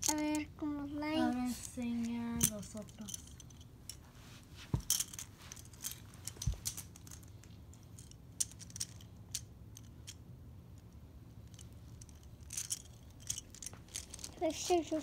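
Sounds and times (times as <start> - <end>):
toy trucks clicking and clattering: 0.0 - 0.5, 1.2 - 4.0, 4.9 - 15.0.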